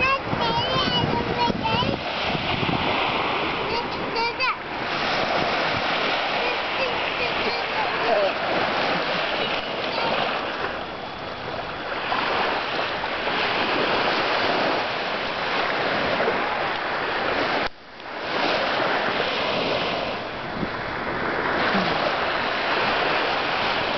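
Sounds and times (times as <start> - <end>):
small waves washing onto beach: 0.0 - 23.9
wind on microphone: 0.0 - 23.9.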